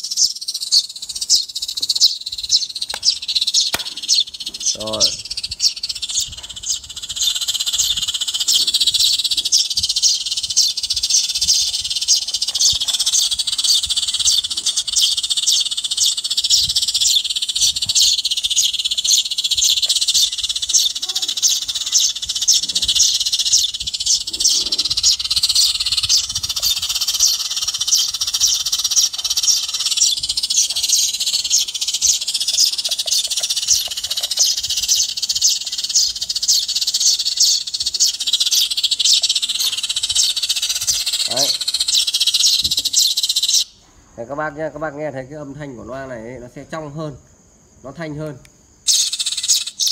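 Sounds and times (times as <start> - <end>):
sparrows chirping from a speaker: 0.0 - 47.2, 47.9 - 49.9.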